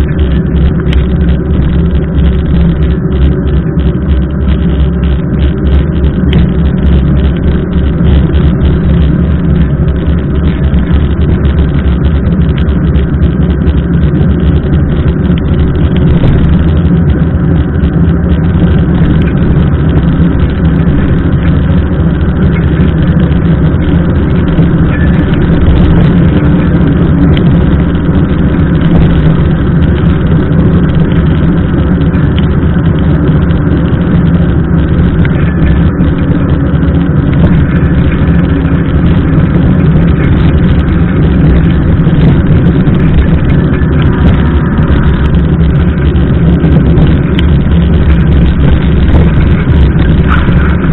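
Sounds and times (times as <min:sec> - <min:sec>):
bike ride vibration: 0:00.0 - 0:50.9
wind rumble on microphone: 0:00.0 - 0:50.9.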